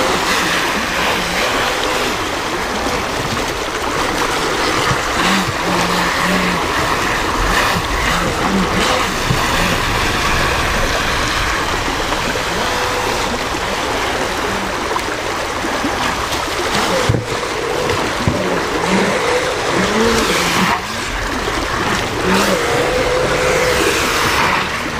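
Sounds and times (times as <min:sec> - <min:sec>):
creek water rushing over rocks: 0:00.0 - 0:24.9
toy boat electric motor whine: 0:00.0 - 0:24.9.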